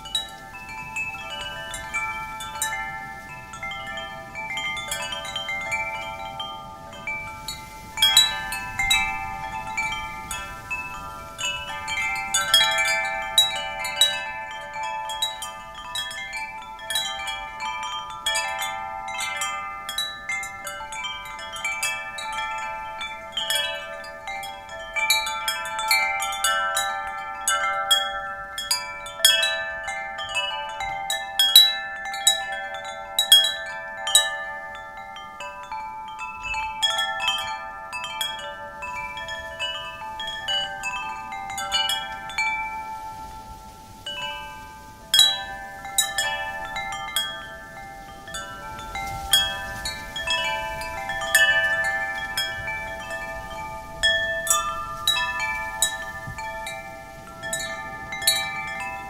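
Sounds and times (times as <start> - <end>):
wind chimes ringing: 0.0 - 59.0.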